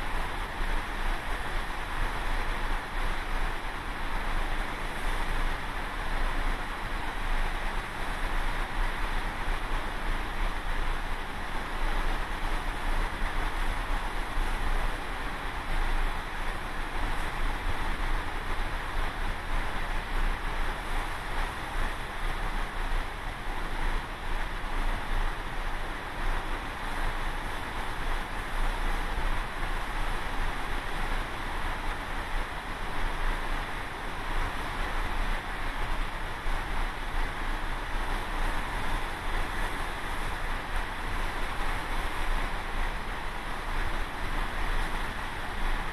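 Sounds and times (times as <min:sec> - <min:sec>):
ocean wind and waves: 0:00.0 - 0:45.9
wind rumble on microphone: 0:00.0 - 0:45.9.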